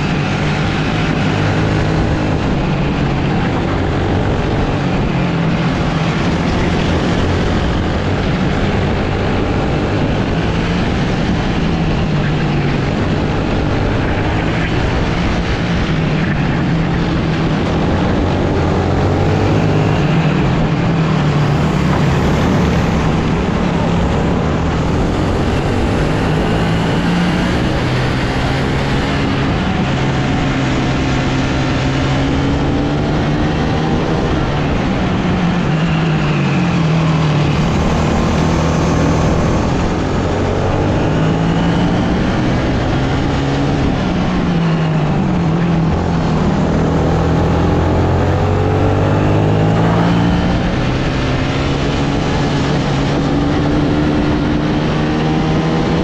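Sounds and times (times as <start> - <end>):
kart engine at racing speed: 0.0 - 56.0
wind and road noise: 0.0 - 56.0.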